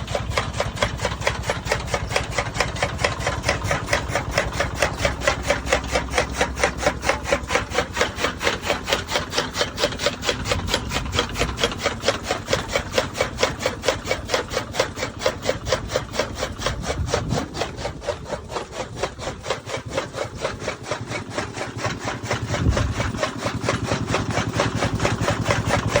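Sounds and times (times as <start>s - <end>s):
rhythmic scraping strokes: 0.0s - 26.0s.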